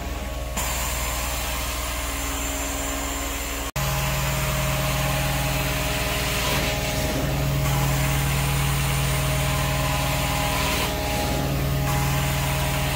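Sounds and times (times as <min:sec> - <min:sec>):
carpet extraction machine humming: 0:00.0 - 0:12.9.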